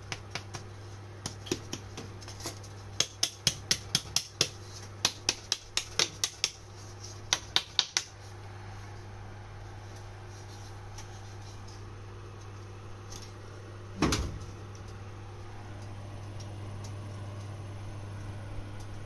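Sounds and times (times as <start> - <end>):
electric oven humming: 0.0 - 19.0.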